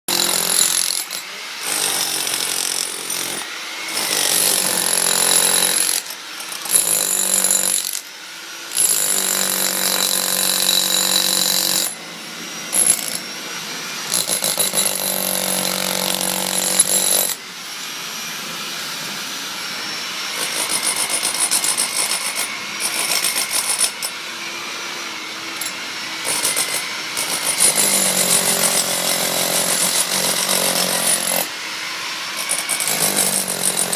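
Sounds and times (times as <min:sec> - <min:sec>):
power tools whining on stone: 0:00.1 - 0:33.9.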